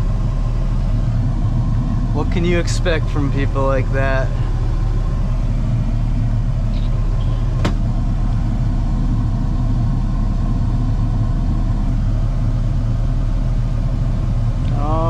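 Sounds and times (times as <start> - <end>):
pickup truck engine and road rumble: 0.0 - 15.0.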